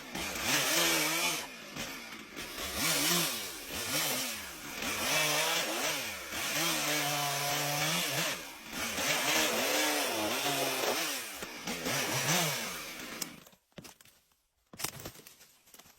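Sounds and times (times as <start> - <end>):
chainsaw cutting wood: 0.0 - 13.6.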